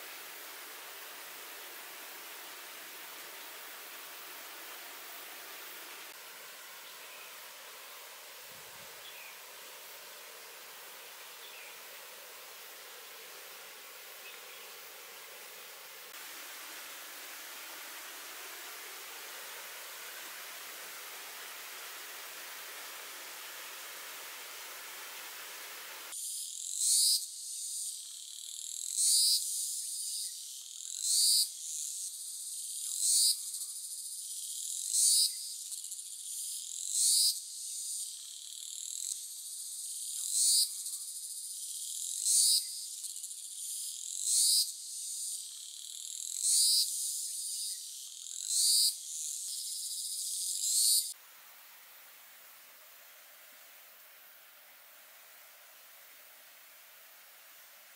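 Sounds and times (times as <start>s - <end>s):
insects buzzing chorus: 0.0s - 51.2s.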